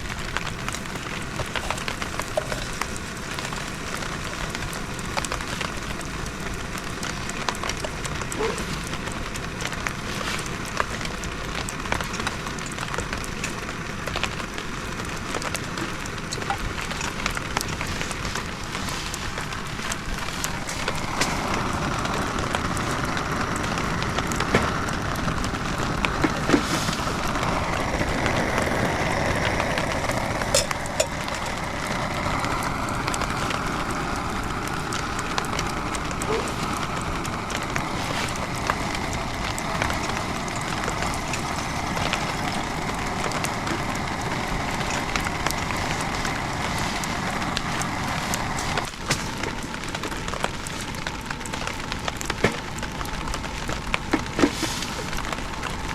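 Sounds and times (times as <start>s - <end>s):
steady rain with crackles: 0.0s - 55.9s.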